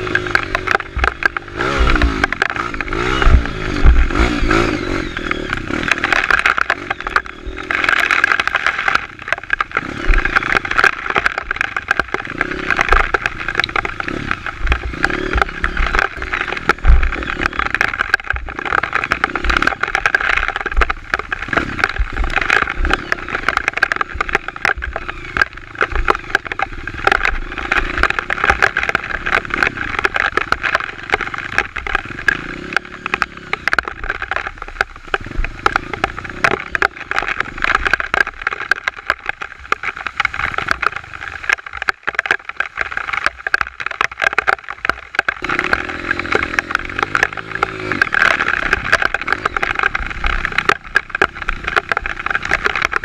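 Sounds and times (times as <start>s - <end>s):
dense crackling noise: 0.0s - 53.0s
dirt bike engine running: 0.0s - 53.0s.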